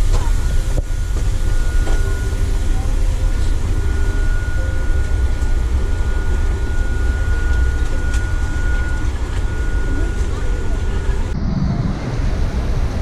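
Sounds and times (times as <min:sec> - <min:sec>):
faint voices: 0:00.0 - 0:12.8
low mechanical rumble: 0:00.0 - 0:13.0
thin high whine: 0:00.0 - 0:13.0.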